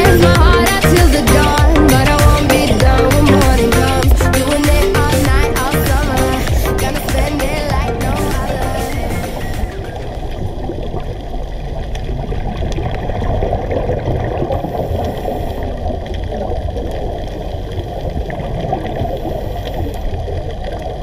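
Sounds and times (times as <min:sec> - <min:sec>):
muffled underwater gurgling: 0:00.0 - 0:21.0.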